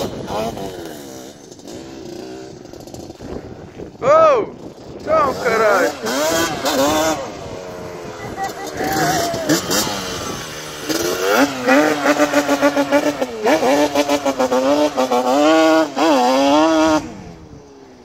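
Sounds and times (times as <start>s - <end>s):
two-stroke quad engine revving: 0.0s - 18.0s.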